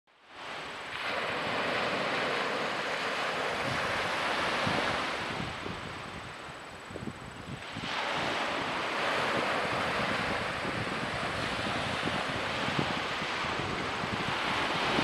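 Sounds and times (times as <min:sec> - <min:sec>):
small waves on sandy beach: 0:00.1 - 0:15.0
wind gusting on microphone: 0:00.4 - 0:15.0.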